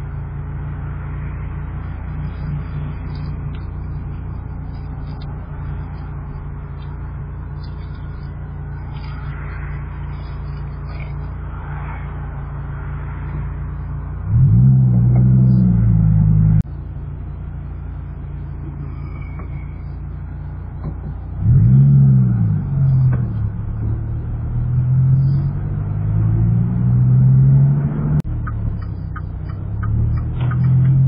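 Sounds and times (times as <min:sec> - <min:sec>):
loud low rising tone: 0:00.0 - 0:20.0, 0:20.7 - 0:31.0
car engine idling: 0:00.0 - 0:27.1, 0:28.2 - 0:31.0.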